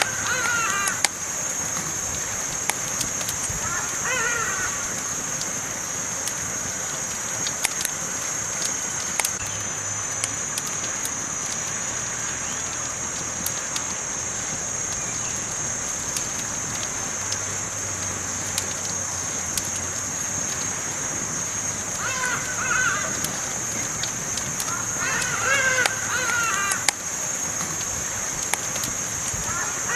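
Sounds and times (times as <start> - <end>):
burning wood popping and snapping: 0.0 - 29.9
campfire hissing: 0.0 - 29.9.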